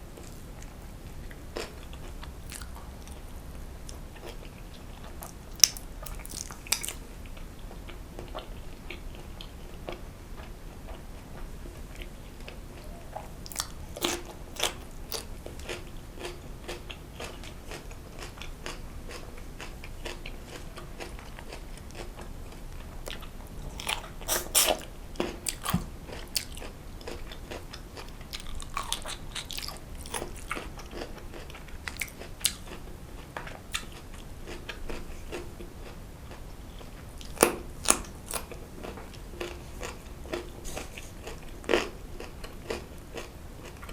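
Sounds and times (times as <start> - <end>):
person chewing crunchy food: 0.2 - 3.3, 3.9 - 11.0, 11.8 - 43.9.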